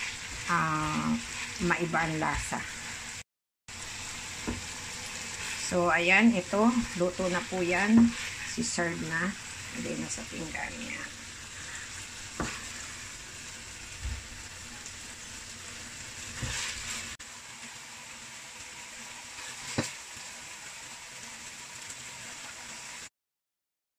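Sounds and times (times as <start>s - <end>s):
food sizzling in wok: 0.0s - 23.1s.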